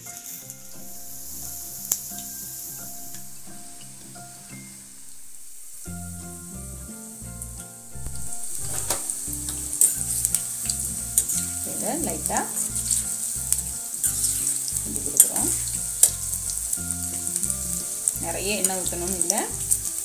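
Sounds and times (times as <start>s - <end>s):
oil sizzling while deep-frying: 0.0s - 20.0s.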